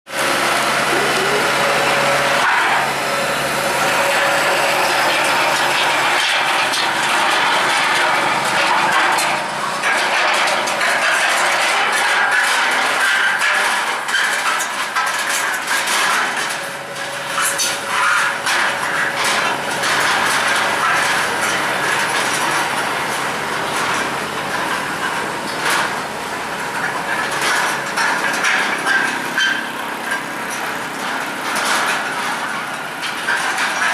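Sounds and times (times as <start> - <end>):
combine harvester engine running: 0.1 - 33.9.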